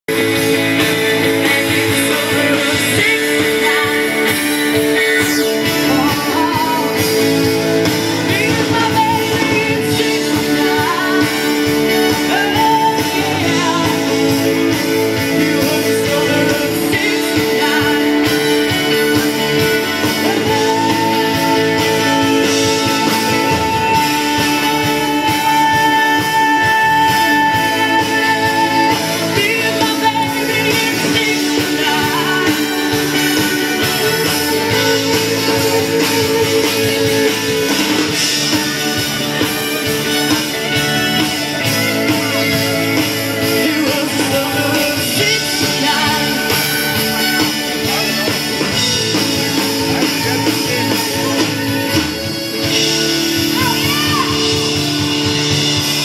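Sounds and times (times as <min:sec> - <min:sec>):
guitar: 0:00.0 - 0:56.0
live band over loudspeakers: 0:00.0 - 0:56.0
person singing: 0:00.1 - 0:56.0.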